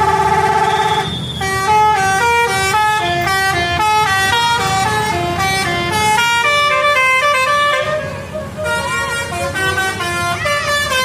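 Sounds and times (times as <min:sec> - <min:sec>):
bus engine running: 0:00.0 - 0:11.0
musical bus horn melody: 0:00.0 - 0:11.0.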